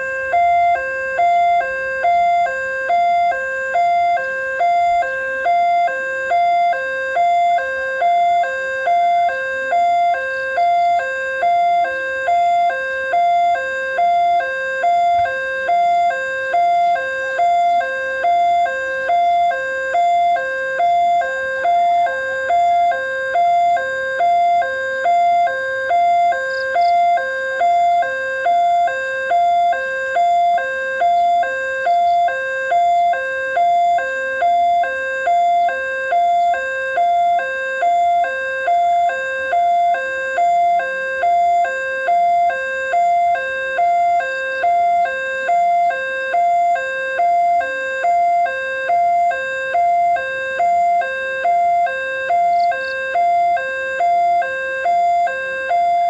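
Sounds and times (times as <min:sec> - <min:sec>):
two-tone level crossing alarm: 0:00.0 - 0:56.0.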